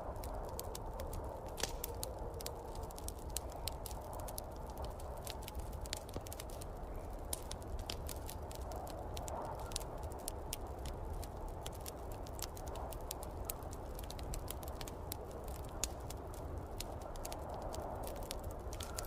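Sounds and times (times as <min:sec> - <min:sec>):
snowstorm wind: 0:00.0 - 0:19.0
wood fire crackling: 0:00.0 - 0:19.0.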